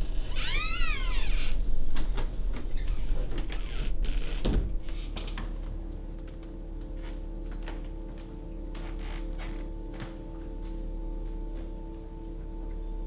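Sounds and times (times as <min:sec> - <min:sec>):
low steady droning hum: 0:00.0 - 0:13.0.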